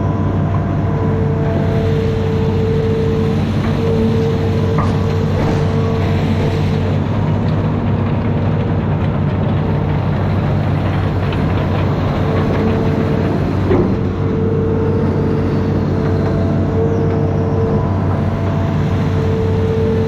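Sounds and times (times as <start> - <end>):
diesel engine running: 0.0 - 20.0
high mechanical whine: 0.0 - 20.0.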